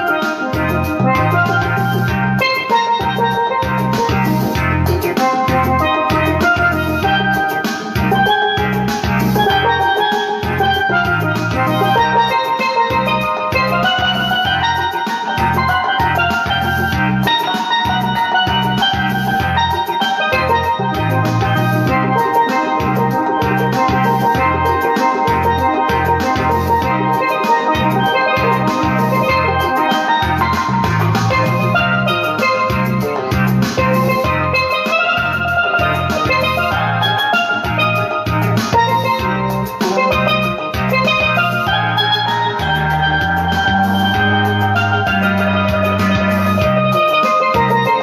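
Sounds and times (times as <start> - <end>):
bass: 0.0 - 48.0
drum beat: 0.0 - 48.0
steelpan melody: 0.0 - 48.0.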